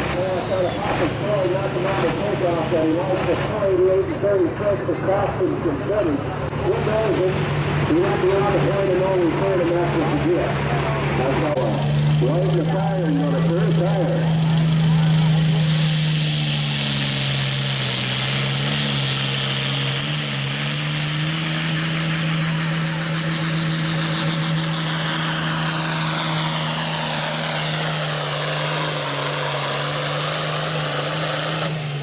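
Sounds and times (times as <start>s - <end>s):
diesel tractor engine drone: 0.0s - 32.0s
high turbo whine: 0.0s - 32.0s.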